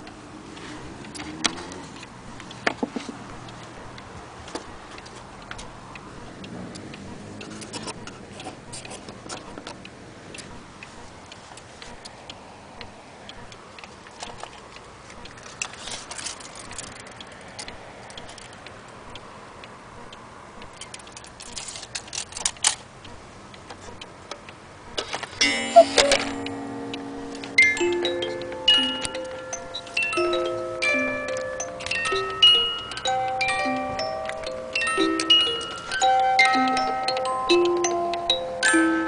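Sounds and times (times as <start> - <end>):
clock ticking and clicking: 0.0 - 39.0.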